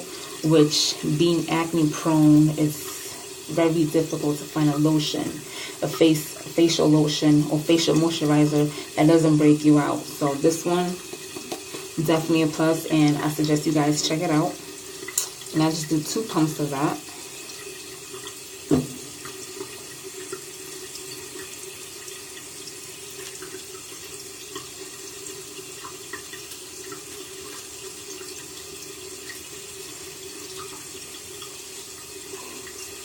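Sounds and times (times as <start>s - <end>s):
tap water running into sink: 0.0s - 33.0s.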